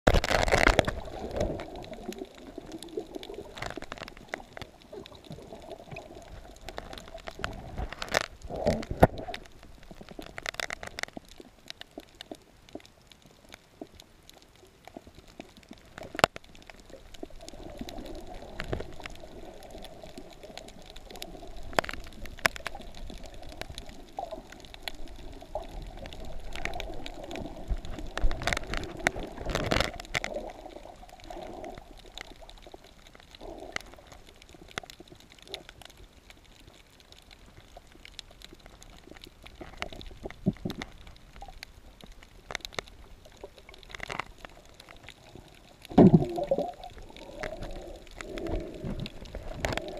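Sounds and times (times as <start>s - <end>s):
muffled underwater water gurgling: 0.1s - 49.9s.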